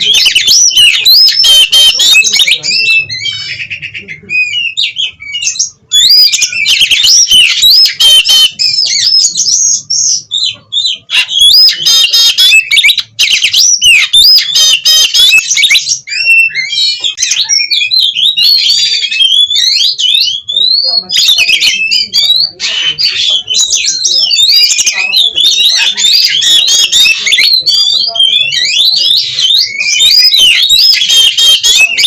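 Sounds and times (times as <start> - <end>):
magpie-robin singing: 0.0 - 32.0.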